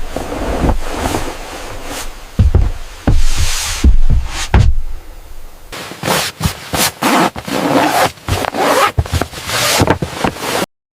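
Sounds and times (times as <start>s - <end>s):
scraping and rubbing noises: 0.0s - 4.8s, 5.8s - 10.7s.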